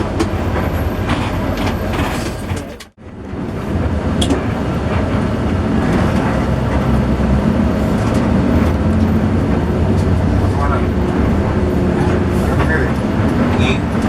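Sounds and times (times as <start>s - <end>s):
bus engine rumble inside cabin: 0.0s - 14.0s.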